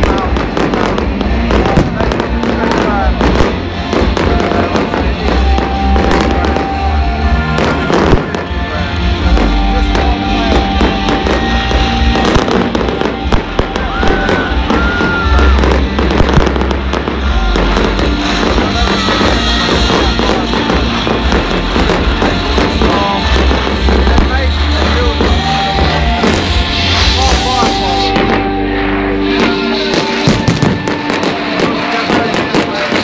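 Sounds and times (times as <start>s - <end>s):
fireworks bursting and crackling: 0.0s - 33.0s
music: 0.0s - 33.0s.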